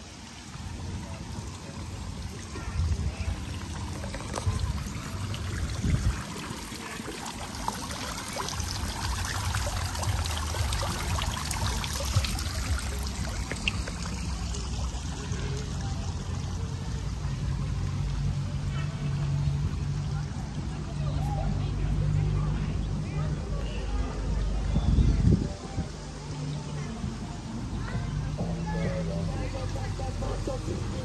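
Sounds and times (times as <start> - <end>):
fountain water splashing: 0.0 - 24.7, 25.6 - 31.0.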